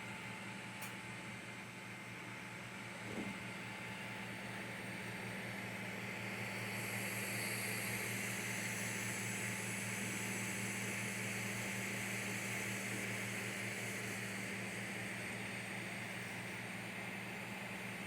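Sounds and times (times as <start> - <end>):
whir of fans with low hum: 0.0 - 18.0.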